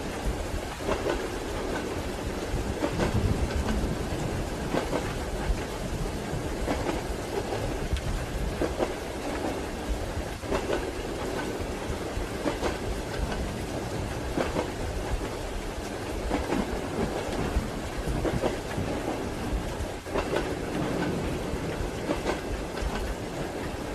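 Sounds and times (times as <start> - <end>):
railway carriage rumble: 0.0 - 23.9
rain falling: 0.0 - 23.9
train wheels clacking over rail joints: 0.0 - 23.9.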